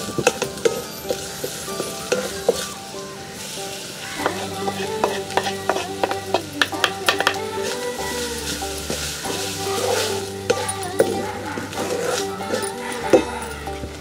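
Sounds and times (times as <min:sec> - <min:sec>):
metal spatula scraping pan: 0:00.0 - 0:02.8, 0:04.2 - 0:13.3
light sizzle: 0:00.0 - 0:14.0.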